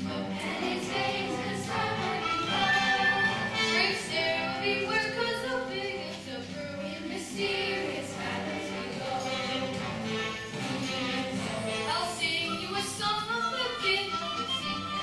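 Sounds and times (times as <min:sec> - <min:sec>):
young cast singing in chorus: 0:00.0 - 0:12.8
musical accompaniment: 0:00.0 - 0:15.0.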